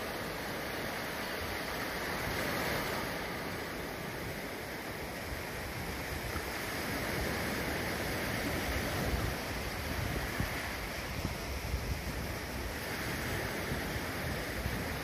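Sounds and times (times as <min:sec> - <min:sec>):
waves washing up a beach: 0:00.0 - 0:15.0
wind buffeting microphone: 0:00.0 - 0:15.0.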